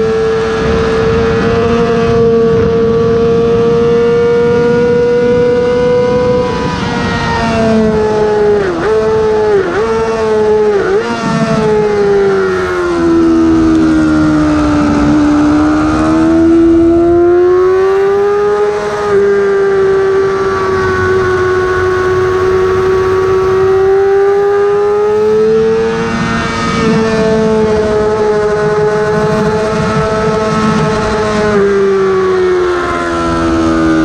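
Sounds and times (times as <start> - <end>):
motorcycle engine at racing speed: 0.0 - 34.0
wind noise: 0.0 - 34.0.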